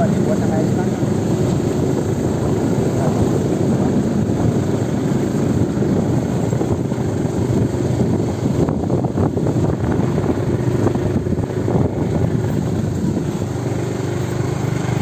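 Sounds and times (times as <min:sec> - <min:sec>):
motorcycle engine drone: 0:00.0 - 0:15.0
road noise: 0:00.0 - 0:15.0.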